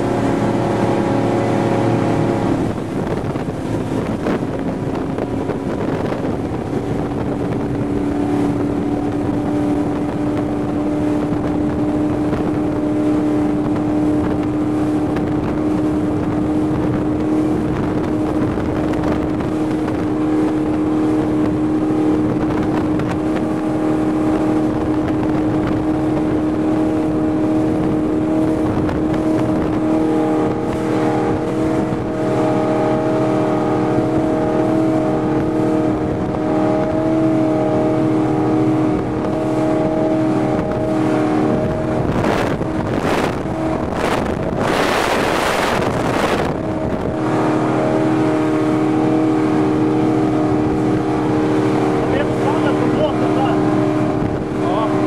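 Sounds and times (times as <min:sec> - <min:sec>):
powerboat engine running flat out: 0:00.0 - 0:55.0
wind and water rushing against hull: 0:00.0 - 0:55.0.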